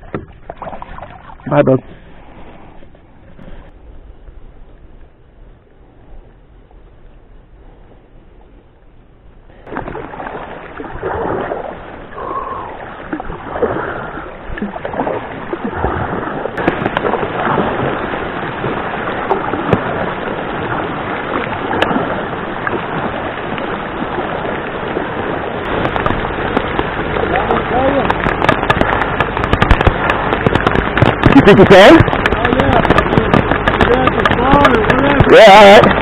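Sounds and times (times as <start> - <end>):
paddle strokes splashing: 0.0 - 3.8, 4.6 - 36.0
heavy rain on a lake: 0.0 - 36.0.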